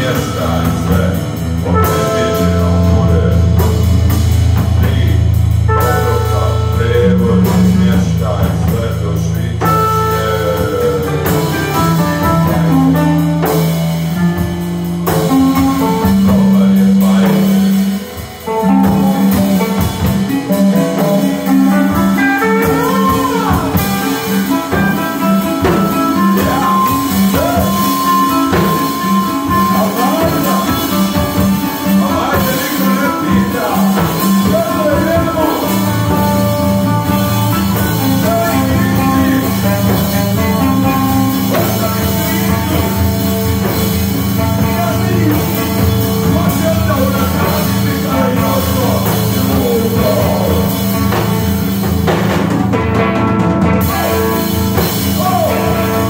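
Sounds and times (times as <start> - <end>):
drum kit: 0.0 - 56.0
electric guitar lead: 0.0 - 56.0
low bass notes: 0.0 - 56.0.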